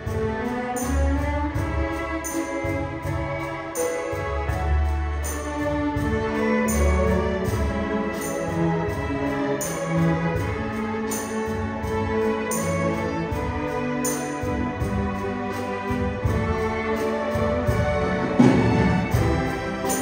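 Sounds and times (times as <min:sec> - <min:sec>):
bowed strings holding notes: 0:00.0 - 0:20.0
orchestra playing: 0:00.0 - 0:20.0.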